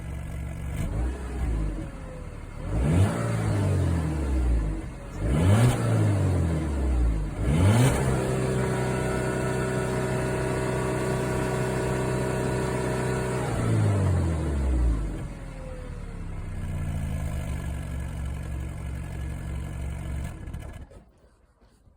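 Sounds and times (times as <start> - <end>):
car engine revving: 0.0 - 18.8.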